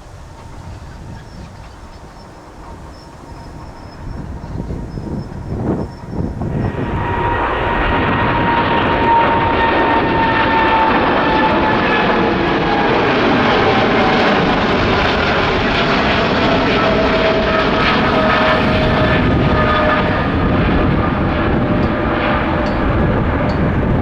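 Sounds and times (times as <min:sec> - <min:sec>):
jet engine roar: 0:00.0 - 0:24.0.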